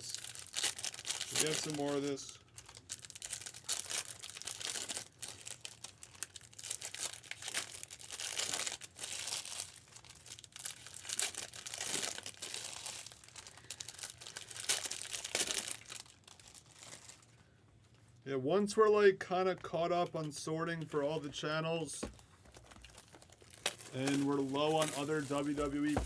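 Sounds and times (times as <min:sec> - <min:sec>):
plastic wrapping crinkling and tearing: 0:00.0 - 0:17.4, 0:22.0 - 0:26.0.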